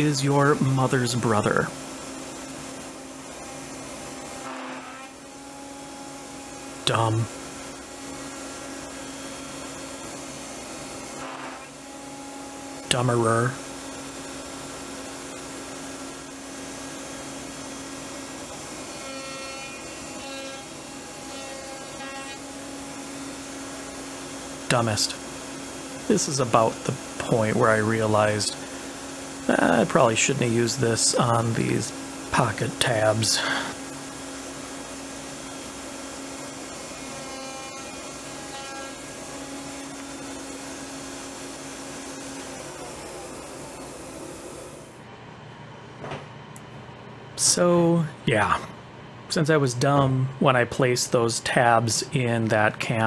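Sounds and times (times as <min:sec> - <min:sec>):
router bit cutting wood: 0:00.0 - 0:45.0
router running: 0:00.0 - 0:45.0.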